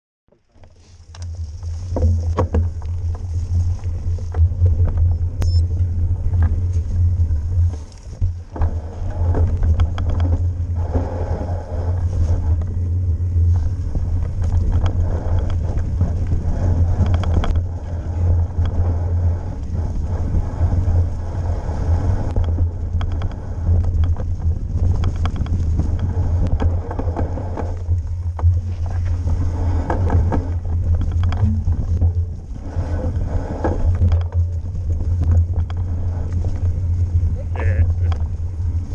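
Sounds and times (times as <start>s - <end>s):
bike knocks and rattles: 0.4s - 21.2s, 21.8s - 38.6s
tyres on gravel and dirt: 0.4s - 38.9s
wind rumble on microphone: 0.4s - 38.9s.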